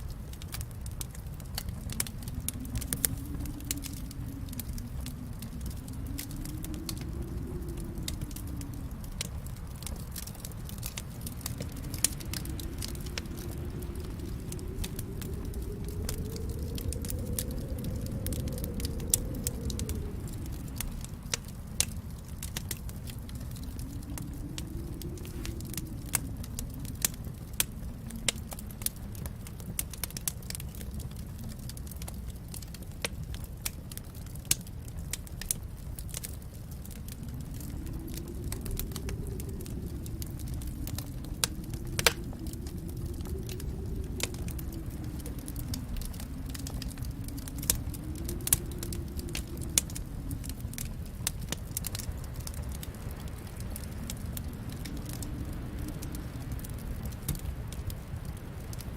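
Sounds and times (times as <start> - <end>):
fireplace fire crackling: 0.0 - 58.9
low rumble of flames: 0.0 - 58.9.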